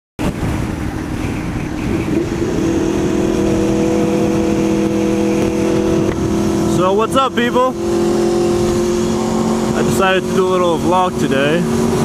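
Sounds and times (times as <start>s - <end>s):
wind noise on microphone: 0.2s - 10.2s
motorcycle engine running: 0.3s - 12.0s.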